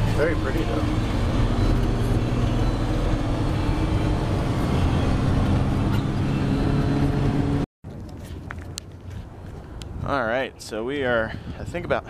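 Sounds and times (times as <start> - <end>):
engine hum: 0.0 - 10.0
road noise: 0.0 - 12.0.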